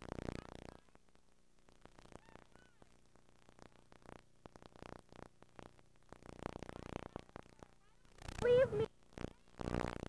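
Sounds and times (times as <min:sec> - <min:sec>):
faint tape hiss: 0:00.0 - 0:10.0.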